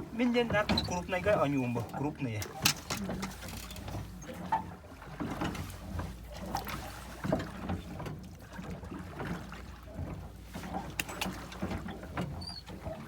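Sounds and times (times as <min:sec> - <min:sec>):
boat knocking: 0:00.0 - 0:13.0
water splashing: 0:00.0 - 0:13.0.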